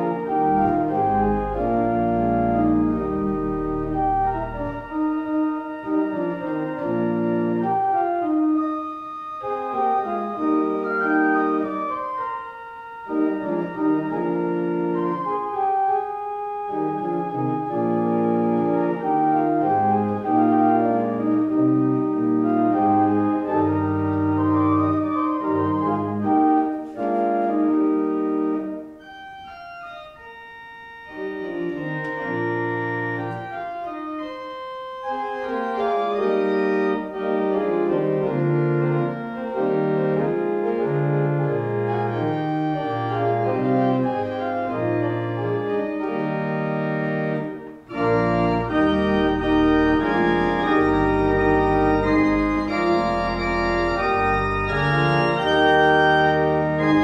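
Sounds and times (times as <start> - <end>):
organ playing sustained chords: 0.0 - 57.0.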